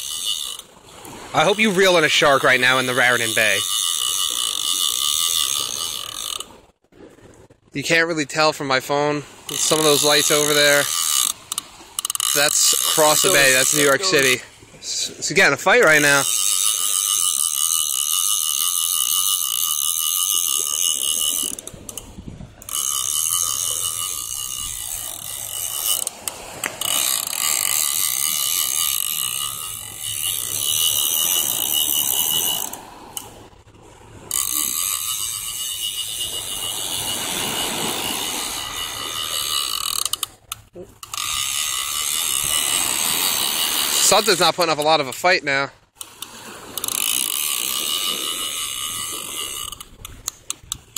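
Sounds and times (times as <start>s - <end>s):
fishing reel clicking and whirring: 0.0s - 8.0s, 8.7s - 50.9s.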